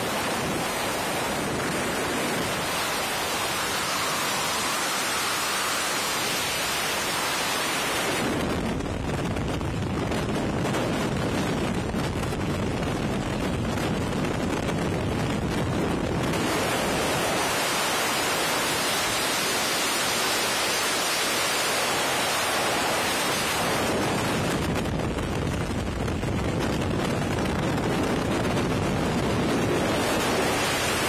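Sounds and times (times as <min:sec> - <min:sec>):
strong wind on microphone: 0:00.0 - 0:31.0.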